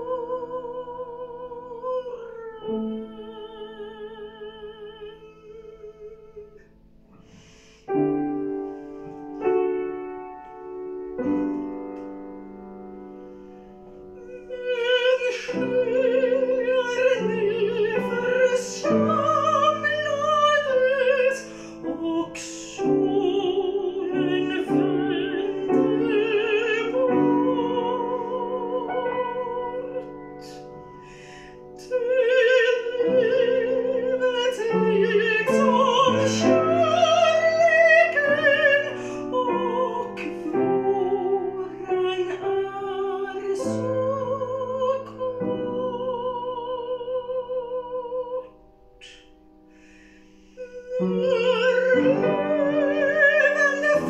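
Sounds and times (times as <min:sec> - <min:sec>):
soprano singing with vibrato: 0:00.0 - 0:06.7, 0:11.0 - 0:49.4, 0:50.0 - 0:54.0
grand piano accompaniment: 0:00.0 - 0:54.0.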